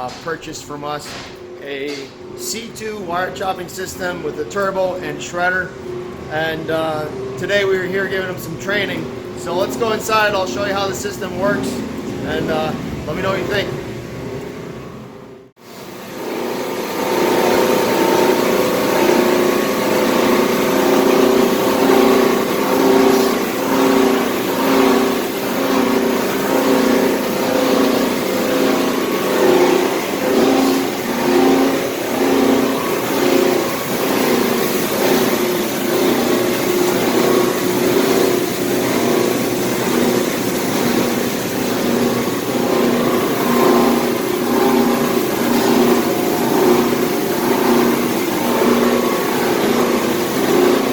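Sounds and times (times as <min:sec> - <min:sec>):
wire chopping machine hum: 0:00.0 - 0:50.9.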